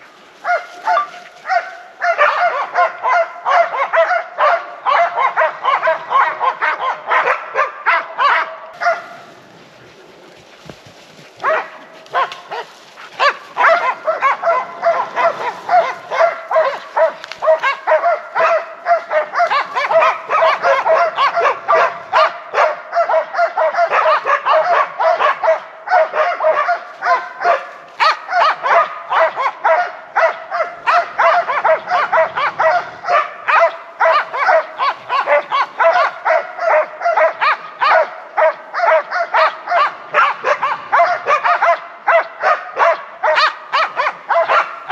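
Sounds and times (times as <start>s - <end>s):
dogs barking: 0.4s - 9.3s, 11.4s - 44.9s.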